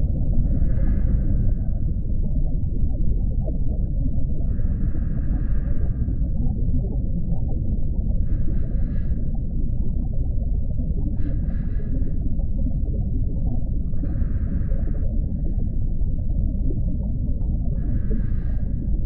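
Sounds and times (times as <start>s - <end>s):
deep underwater rumble: 0.0s - 19.0s.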